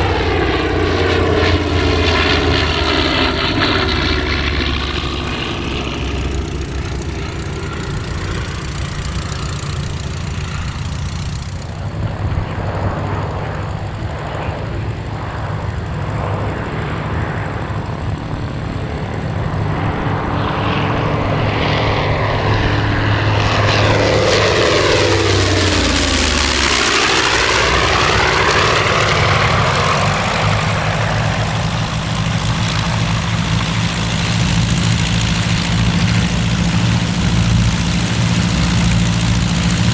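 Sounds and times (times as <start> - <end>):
propeller airplane flying past: 0.0 - 39.9.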